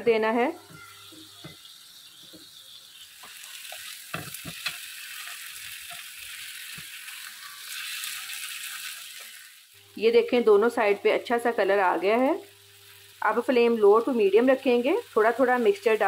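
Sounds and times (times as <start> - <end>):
chicken sizzling in oil: 0.6 - 9.9, 11.3 - 16.0.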